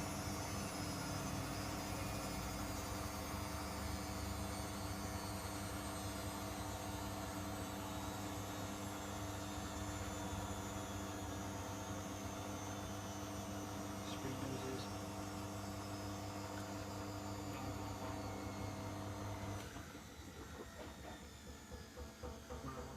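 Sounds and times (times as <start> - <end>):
washing machine spin hum: 0.0 - 22.9.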